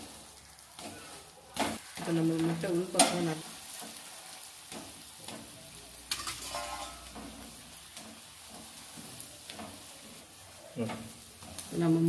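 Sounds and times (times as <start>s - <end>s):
egg sizzling on a griddle: 0.0s - 12.0s
metal spatula scraping: 0.6s - 12.0s.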